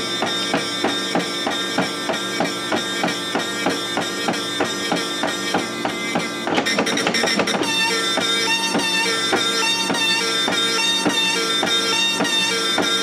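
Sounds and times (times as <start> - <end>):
dot matrix print head buzzing: 0.0 - 13.0
printer sharp clacks: 0.0 - 13.0.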